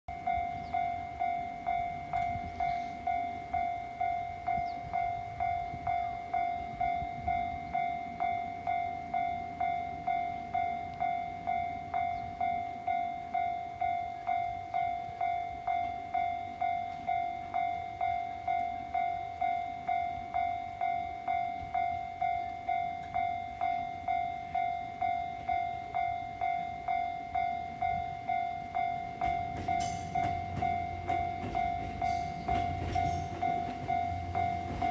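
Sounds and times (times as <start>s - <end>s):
level-crossing warning bell clanging: 0.1s - 34.9s.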